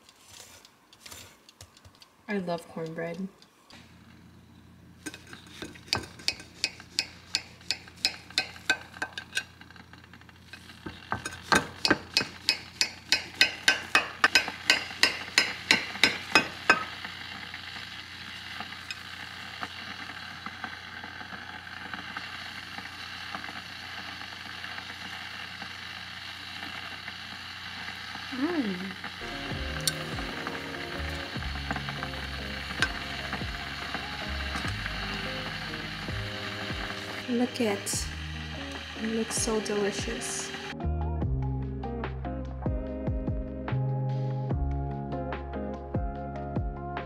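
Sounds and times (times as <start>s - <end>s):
steady hiss: 2.9s - 40.8s.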